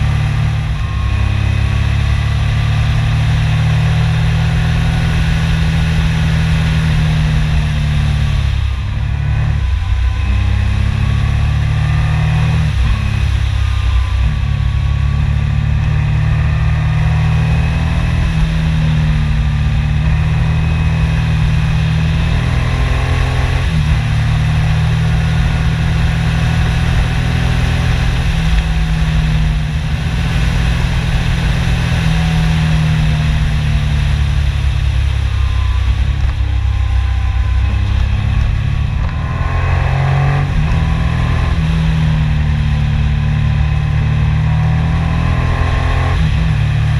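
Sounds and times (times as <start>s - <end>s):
motorcycle engine revving: 0.0s - 46.9s
wind and road noise: 0.0s - 46.9s.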